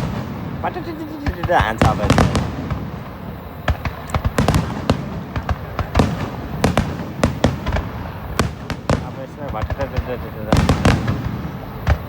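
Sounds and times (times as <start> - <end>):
fireworks bangs: 0.0 - 12.0
fireworks crackling rumble: 0.0 - 12.0.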